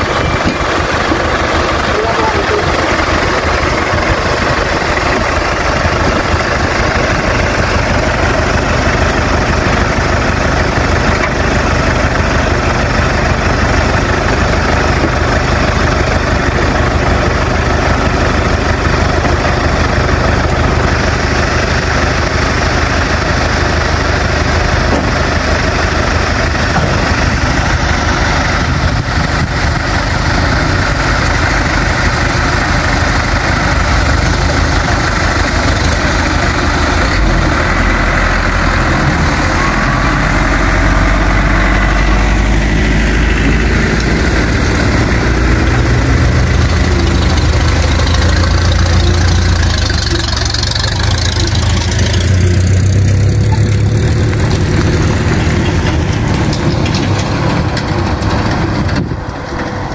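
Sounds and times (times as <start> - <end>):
vehicle engine idling: 0.0 - 59.9.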